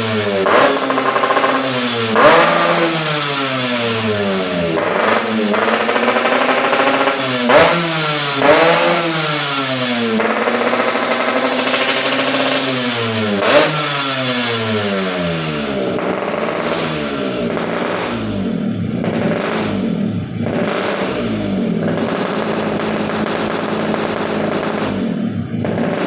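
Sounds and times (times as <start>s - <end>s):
motorcycle engine revving: 0.0s - 26.0s
engine sharp pops: 0.4s - 3.3s, 4.7s - 14.0s, 15.9s - 26.0s.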